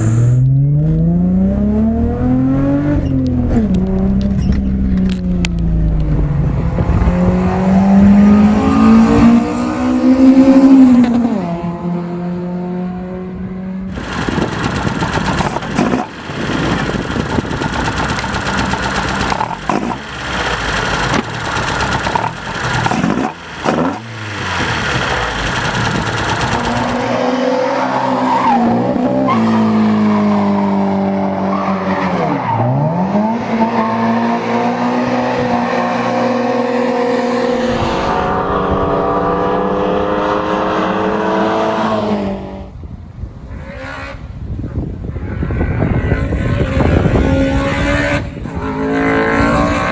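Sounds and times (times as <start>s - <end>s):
car engine revving high: 6.2s - 42.5s, 45.9s - 49.9s.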